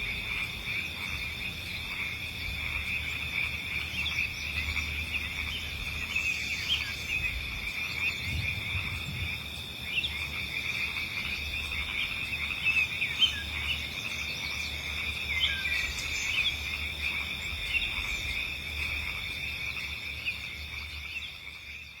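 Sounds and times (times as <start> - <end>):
crickets and insects chorus: 0.0 - 22.0.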